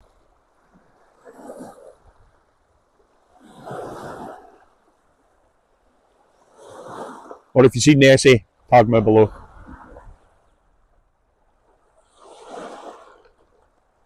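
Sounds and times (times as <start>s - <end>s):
small waves lapping at shore: 0.0s - 14.0s.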